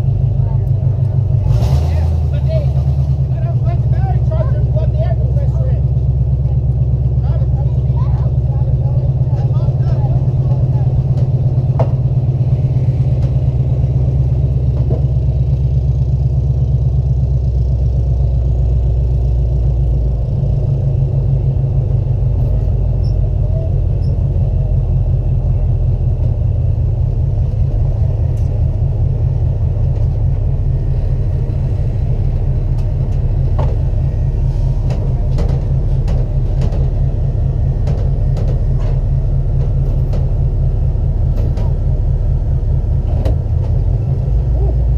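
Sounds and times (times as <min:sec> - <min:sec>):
race car engine rumbling: 0:00.0 - 0:44.9.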